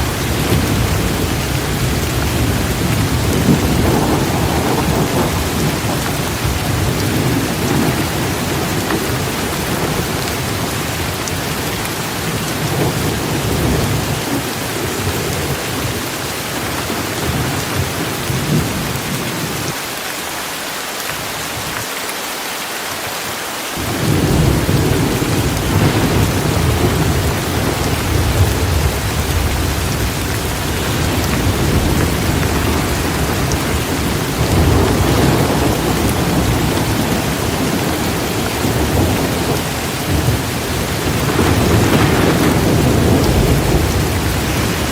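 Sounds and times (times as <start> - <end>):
low rolling thunder: 0.0 - 19.7, 23.8 - 44.9
torrential rain: 0.0 - 44.9.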